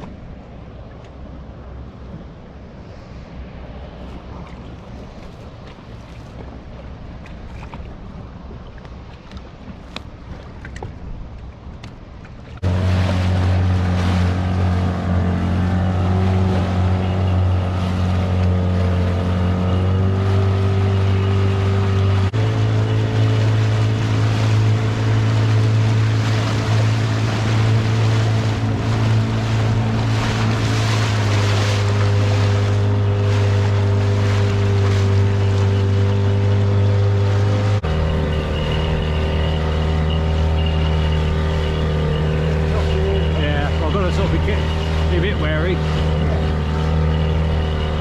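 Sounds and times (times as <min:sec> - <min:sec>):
water noise: 0:00.0 - 0:48.0
outboard motor running: 0:04.0 - 0:48.0.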